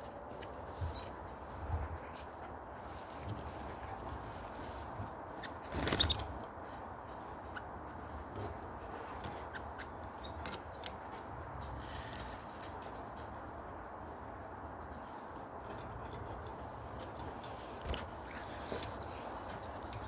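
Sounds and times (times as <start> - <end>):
clicks and scratching in cage: 0.1 - 13.5, 14.9 - 20.0.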